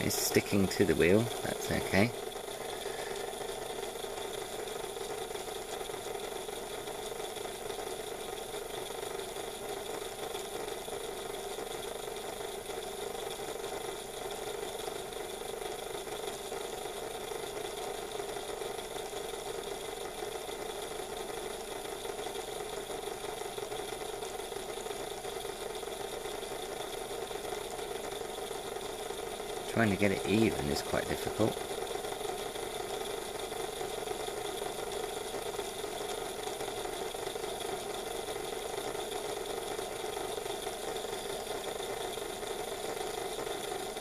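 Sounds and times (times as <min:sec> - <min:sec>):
model train motor and gears running: 0:00.0 - 0:44.0.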